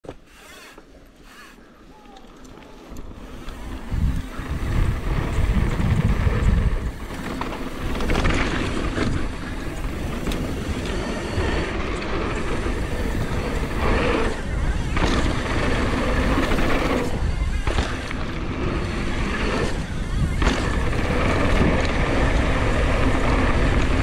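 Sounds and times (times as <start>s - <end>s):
tyres rolling over gravel: 2.4s - 24.0s
wind buffeting microphone: 2.9s - 24.0s.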